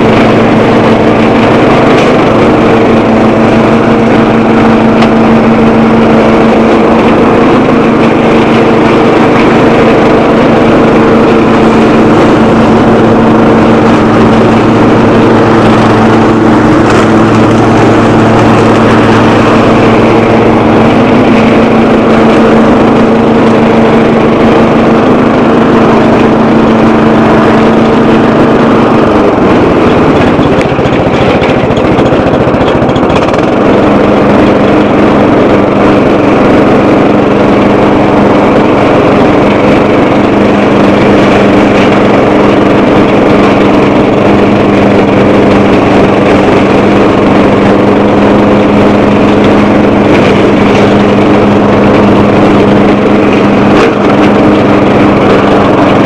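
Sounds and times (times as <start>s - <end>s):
lawn tractor engine running under load: 0.0s - 56.0s.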